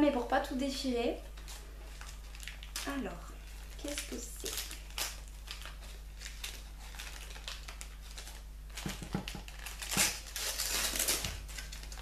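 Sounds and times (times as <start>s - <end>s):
paper crinkling and rustling: 1.3s - 12.0s.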